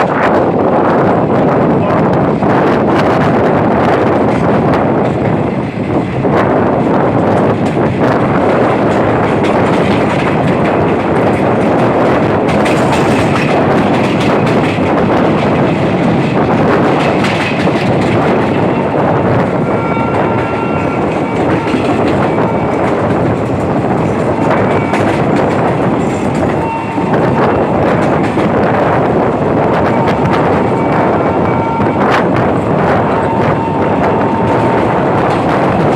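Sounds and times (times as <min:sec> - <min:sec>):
train wheel and rail noise: 0:00.0 - 0:35.9.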